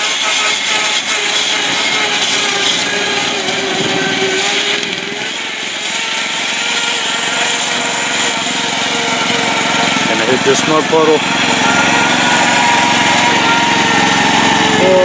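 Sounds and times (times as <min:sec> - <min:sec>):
lawn tractor engine running: 0:00.0 - 0:15.0
loud transmission whine: 0:00.0 - 0:15.0.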